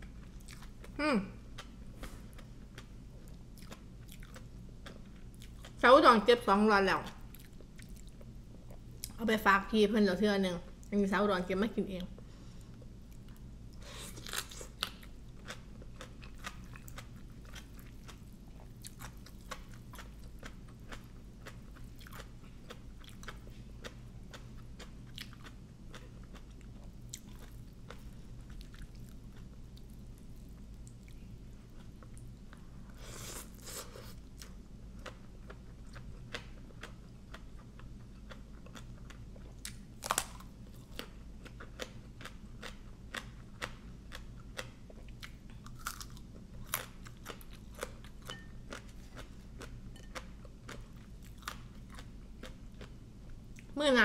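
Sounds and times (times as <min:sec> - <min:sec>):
chewing crisp vegetables: 0:00.0 - 0:05.8, 0:07.0 - 0:09.2, 0:12.7 - 0:53.8.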